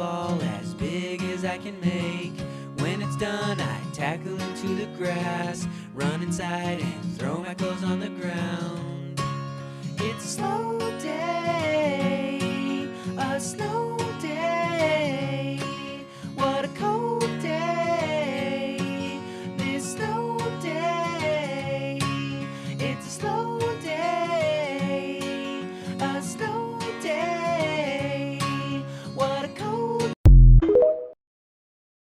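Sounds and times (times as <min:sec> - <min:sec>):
acoustic guitar song: 0:00.0 - 0:30.2.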